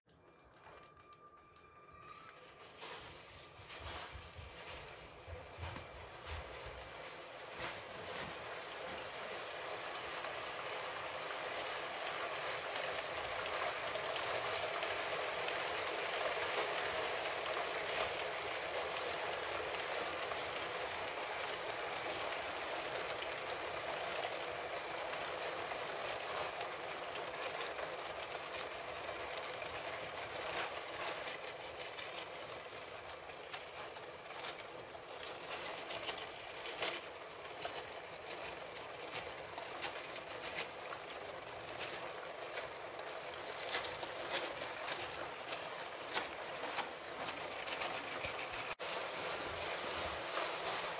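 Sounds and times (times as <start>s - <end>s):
toy train rattling and whirring: 0.1s - 50.9s.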